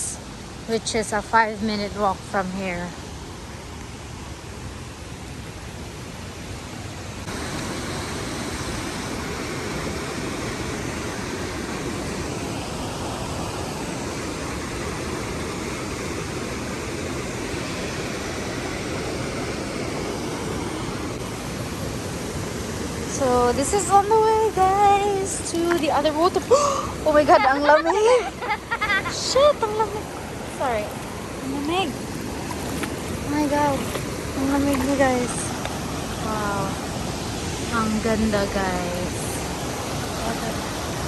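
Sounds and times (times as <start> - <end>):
waterfall rushing: 6.4 - 41.0.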